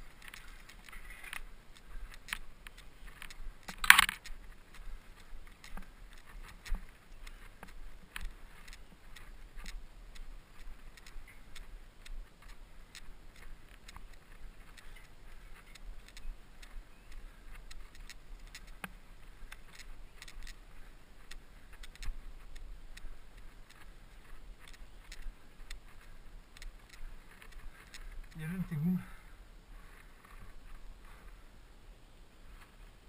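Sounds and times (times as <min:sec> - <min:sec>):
bicycle rattling over rough trail: 0:00.0 - 0:31.4.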